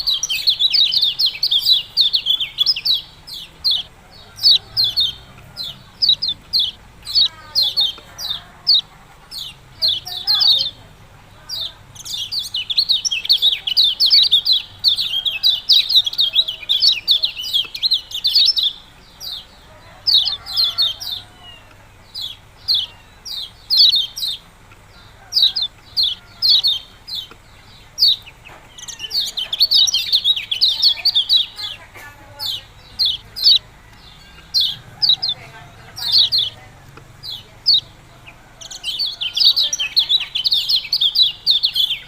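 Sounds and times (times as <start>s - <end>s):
songbird sharp high chirps: 0.0s - 42.0s.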